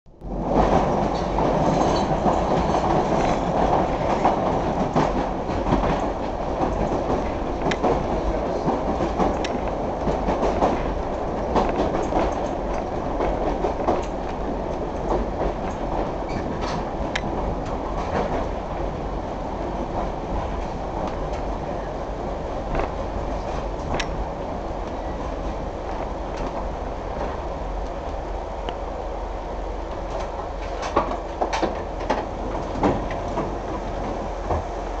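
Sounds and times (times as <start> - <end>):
train rumble and rattle: 0.1 - 35.0.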